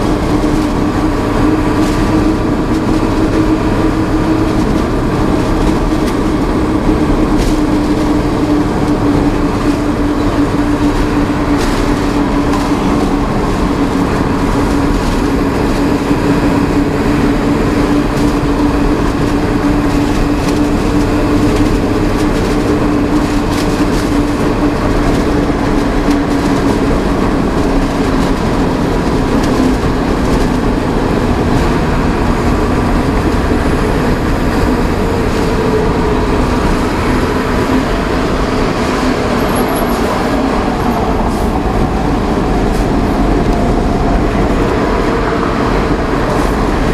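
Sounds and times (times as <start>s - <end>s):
truck engine drone: 0.0s - 46.9s
tyre and wind rumble: 0.0s - 46.9s.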